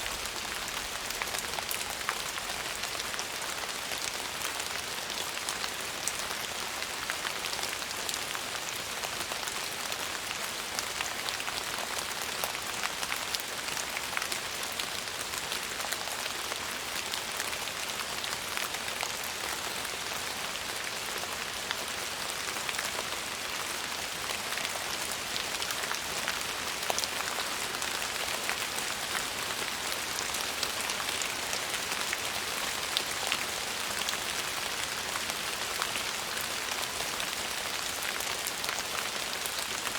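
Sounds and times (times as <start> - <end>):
rain falling on surface: 0.0 - 39.9.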